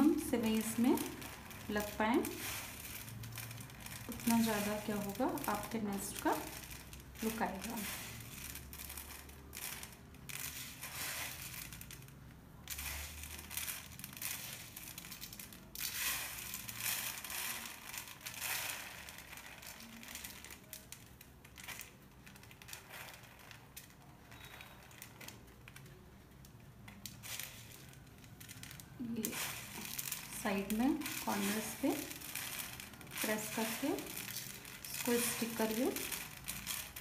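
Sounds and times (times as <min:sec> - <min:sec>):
dry noodles crackling and crunching: 0:00.0 - 0:37.0.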